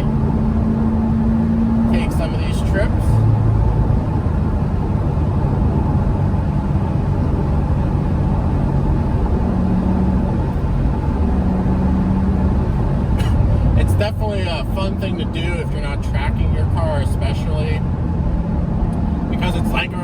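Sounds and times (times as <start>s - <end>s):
car engine revving while driving: 0.0s - 20.0s.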